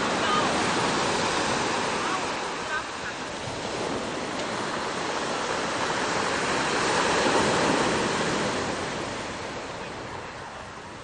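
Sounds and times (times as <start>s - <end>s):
ocean wave breaking on shore: 0.0s - 11.0s.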